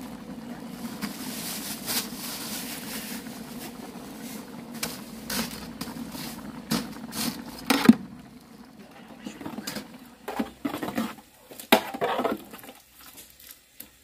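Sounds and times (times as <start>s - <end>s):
soup boiling and bubbling: 0.0s - 14.0s.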